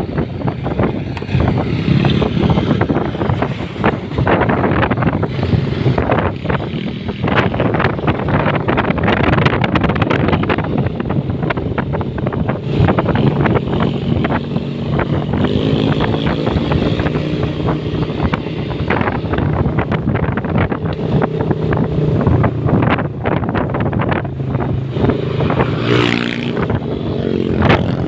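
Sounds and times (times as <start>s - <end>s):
motorcycle engine revving: 0.0s - 28.0s
wind buffeting microphone: 0.0s - 28.0s.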